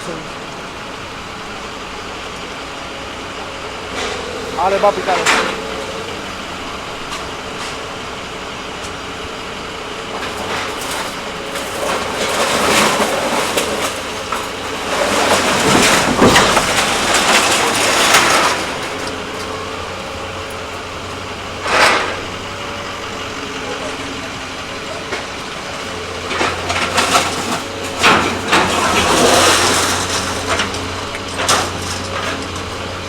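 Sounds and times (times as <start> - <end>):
engine idling: 0.0 - 33.0
hydraulic crusher grinding metal: 0.0 - 33.0.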